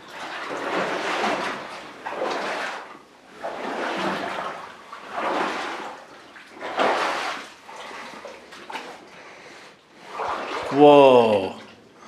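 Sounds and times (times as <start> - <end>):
boots sloshing through water: 0.0 - 11.7.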